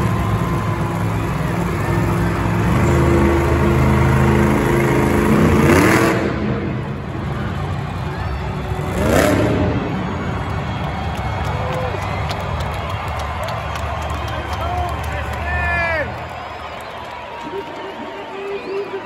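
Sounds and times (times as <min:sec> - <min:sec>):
monster truck engine revving: 0:00.0 - 0:16.4
arena crowd noise: 0:00.0 - 0:19.0.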